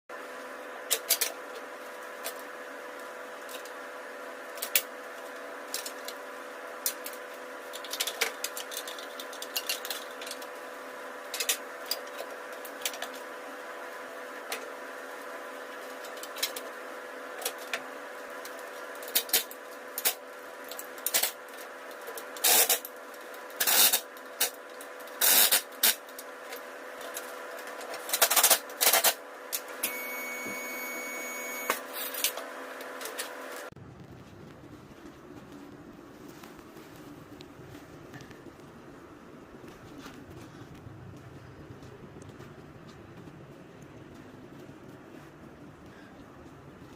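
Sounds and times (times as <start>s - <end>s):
steady hum: 0.1s - 46.9s.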